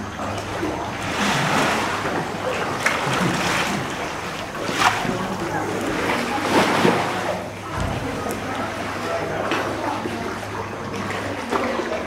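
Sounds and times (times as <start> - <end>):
paddle strokes splashing: 0.0 - 12.0
water sloshing: 0.0 - 12.0.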